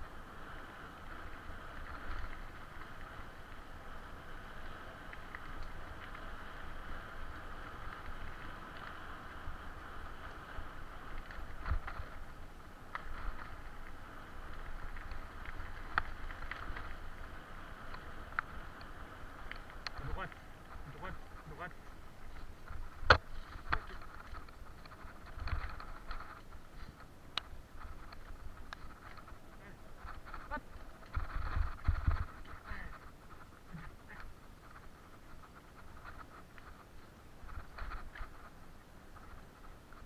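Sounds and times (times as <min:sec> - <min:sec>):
bicycle rattling on dirt trail: 0:00.0 - 0:40.0
wind rumble on microphone: 0:00.0 - 0:40.0.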